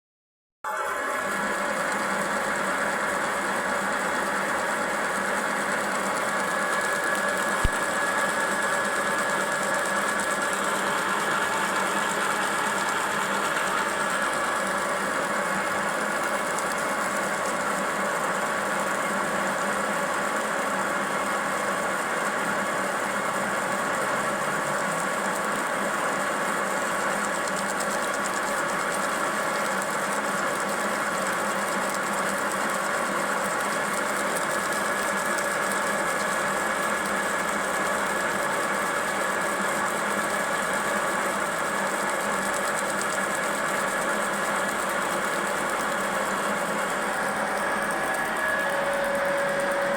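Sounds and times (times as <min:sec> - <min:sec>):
lathe running with whine: 0:00.7 - 0:49.9.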